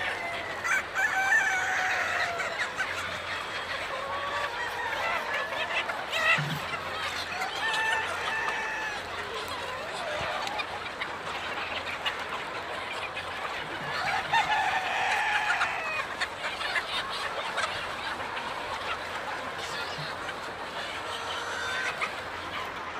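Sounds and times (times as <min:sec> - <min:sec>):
chickens clucking and calling: 0:00.0 - 0:22.9.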